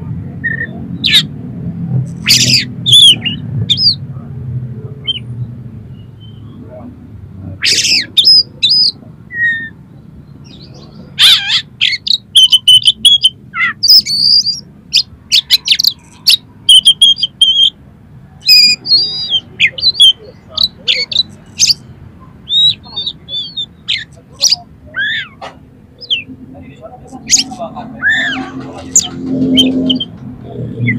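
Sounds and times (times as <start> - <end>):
songbird singing: 2.0 - 4.0, 4.9 - 30.9.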